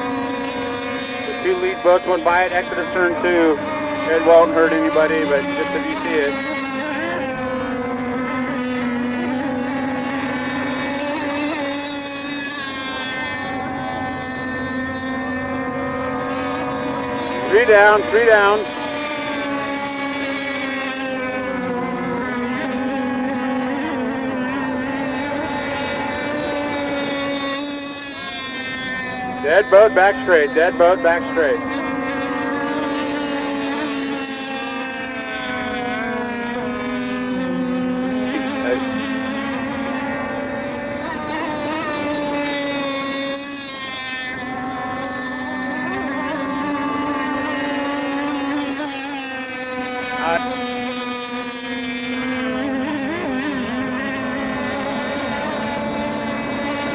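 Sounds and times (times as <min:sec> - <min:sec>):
radio-controlled boat engines whining: 0:00.0 - 0:56.9.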